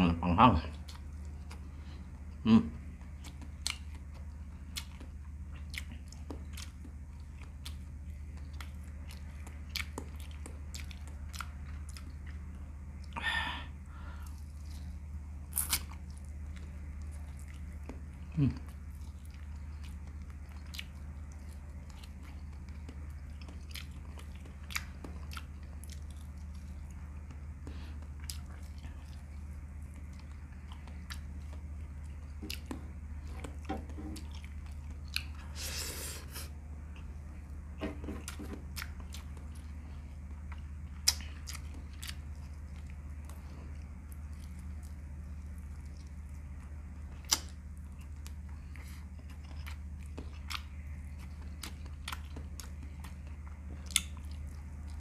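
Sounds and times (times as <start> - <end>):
steady low hum: 0.0 - 55.0
person chewing food: 0.7 - 55.0.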